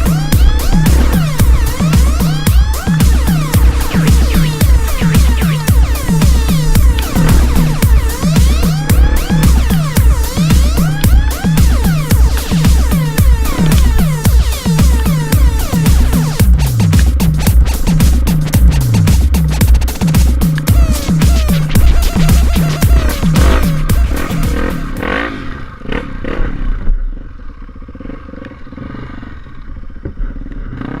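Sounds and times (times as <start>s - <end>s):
electronic dance music: 0.0s - 25.2s
engine running with fast pulse: 0.0s - 31.0s.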